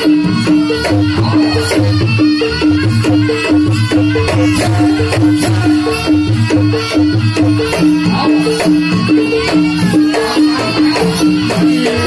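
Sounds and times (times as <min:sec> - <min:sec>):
gamelan percussion music: 0:00.0 - 0:12.0.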